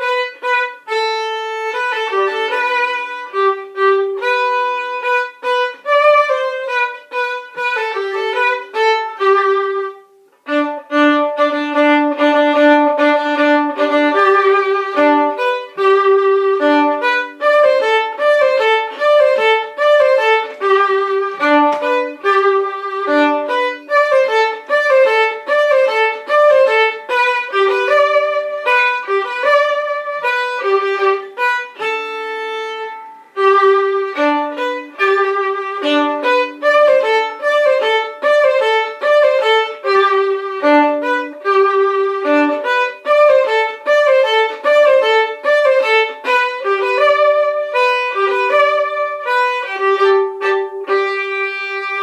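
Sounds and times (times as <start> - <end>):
solo violin: 0.0 - 52.0.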